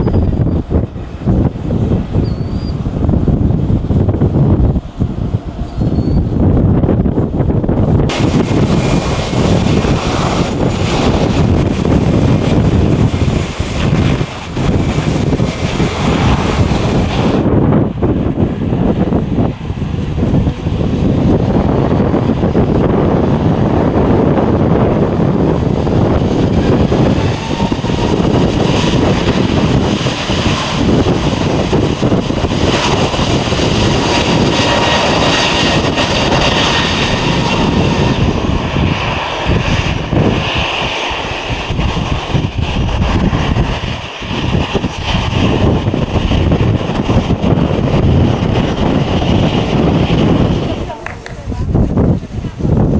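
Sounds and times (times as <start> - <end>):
faint engine whine: 0.0 - 46.7
jet engines roaring: 0.0 - 52.9.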